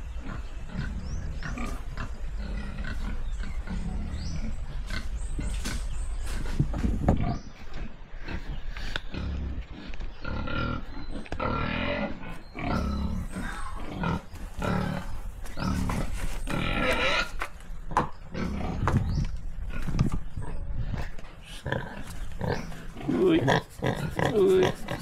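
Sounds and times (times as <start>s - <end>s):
pig grunting: 0.1s - 5.9s, 8.2s - 17.4s, 18.2s - 25.0s.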